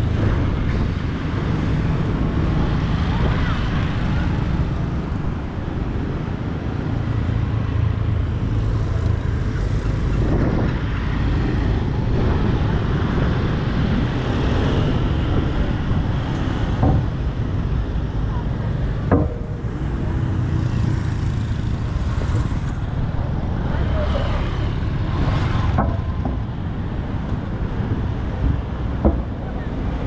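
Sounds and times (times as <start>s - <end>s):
cars and motorbikes passing: 0.0s - 30.0s
deep traffic rumble: 0.0s - 30.0s.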